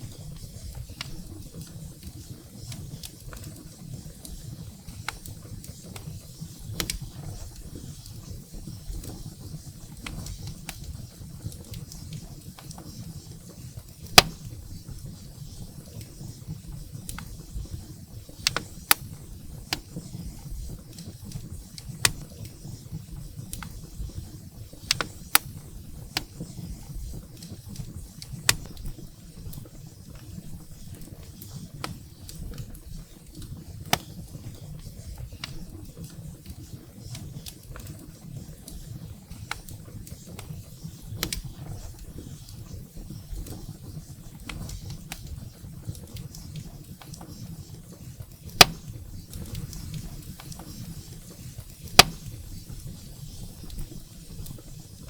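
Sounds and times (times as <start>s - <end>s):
firewood crackling and popping: 0.0s - 55.0s
low rumble of flames: 0.0s - 55.0s.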